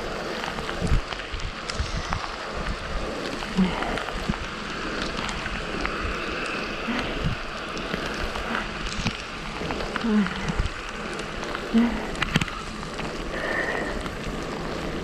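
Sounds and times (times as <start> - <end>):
rain hissing on wet road: 0.0 - 15.0
wind buffeting microphone: 0.0 - 15.0.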